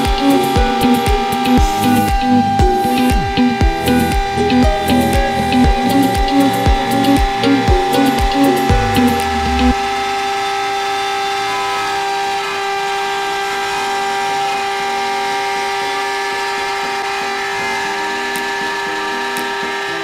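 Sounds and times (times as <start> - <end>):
spindle motor whine: 0.0 - 20.0.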